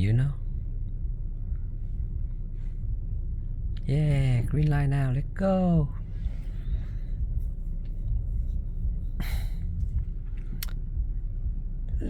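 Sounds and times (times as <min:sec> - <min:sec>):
vehicle rumbling in traffic: 0:00.0 - 0:12.0.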